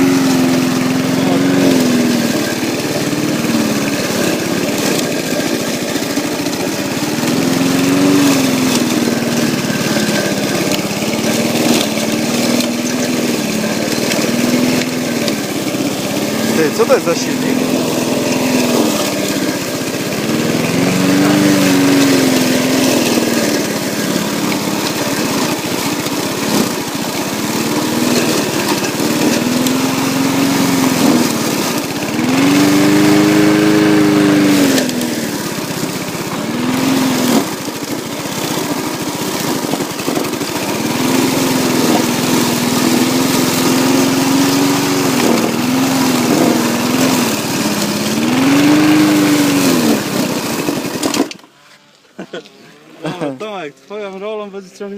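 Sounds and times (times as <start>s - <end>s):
lawn mower engine bogging down: 0.0s - 54.9s.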